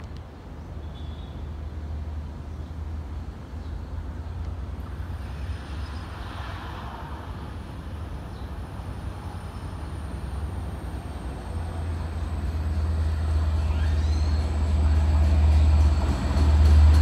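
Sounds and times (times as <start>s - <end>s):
train approaching rumble: 0.0s - 17.0s.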